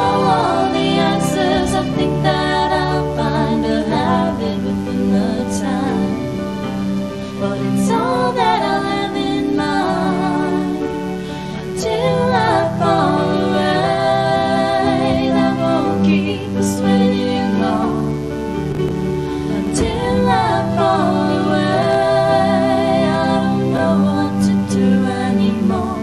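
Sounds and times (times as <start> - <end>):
woman singing: 0.0 - 6.7, 7.3 - 18.2, 19.4 - 26.0
electric keyboard: 0.0 - 26.0.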